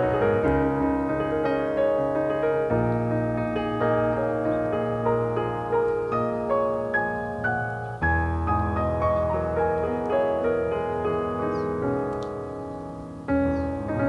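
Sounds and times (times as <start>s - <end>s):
soft slow piano music: 0.0s - 14.0s.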